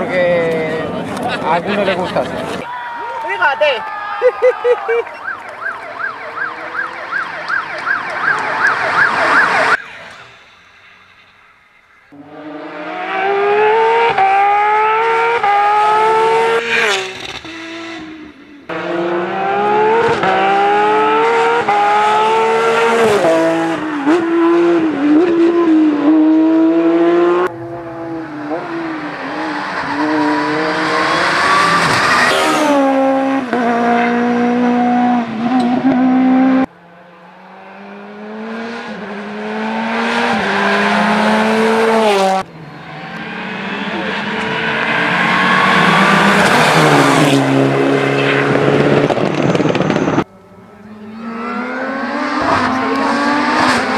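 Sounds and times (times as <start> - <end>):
rally car engines revving: 0.0 - 2.7, 12.1 - 53.9.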